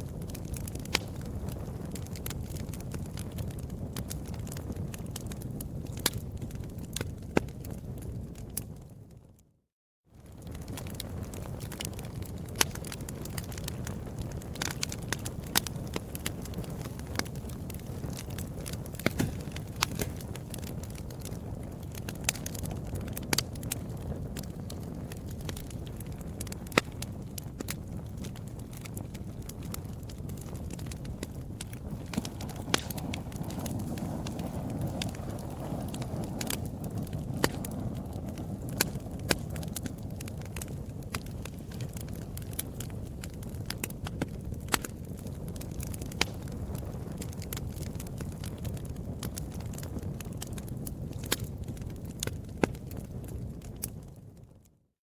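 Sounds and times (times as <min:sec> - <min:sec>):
fire popping: 0:00.0 - 0:09.5, 0:10.1 - 0:54.8
wood fire crackling: 0:00.0 - 0:09.5, 0:10.1 - 0:54.8
low rumble of flames: 0:00.0 - 0:55.0.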